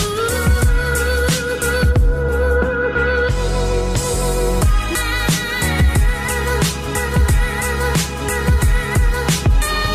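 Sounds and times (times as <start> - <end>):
background music with steady beat: 0.0 - 9.9.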